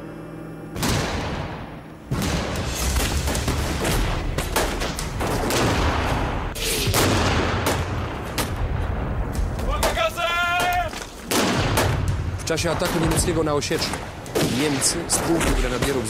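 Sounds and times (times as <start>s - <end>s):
gunfire: 0.8s - 10.0s, 10.6s - 16.0s.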